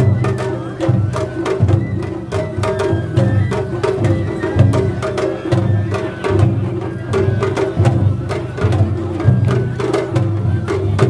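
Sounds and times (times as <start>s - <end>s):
taiko drums: 0.0s - 11.0s.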